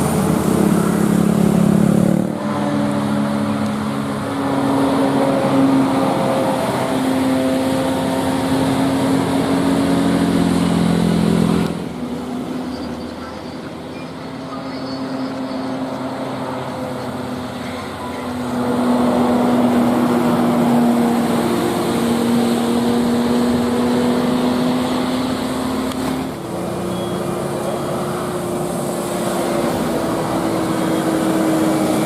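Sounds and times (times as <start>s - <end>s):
vehicle noise: 0.0s - 32.0s.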